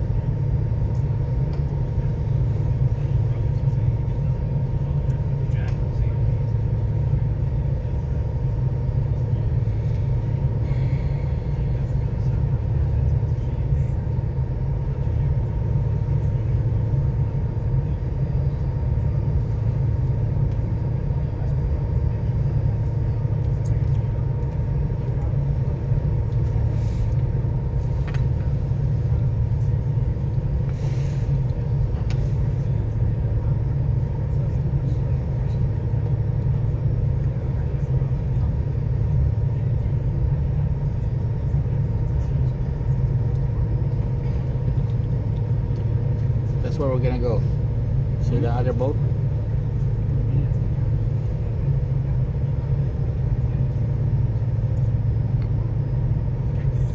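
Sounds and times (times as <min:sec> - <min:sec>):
ferry engines droning: 0:00.0 - 0:56.9.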